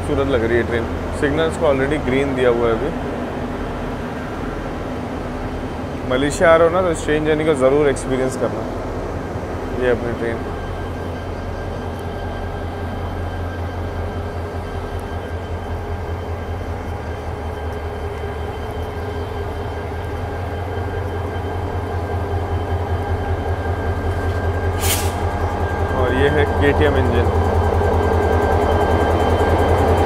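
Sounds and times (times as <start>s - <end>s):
diesel train engine idling: 0.0s - 30.0s.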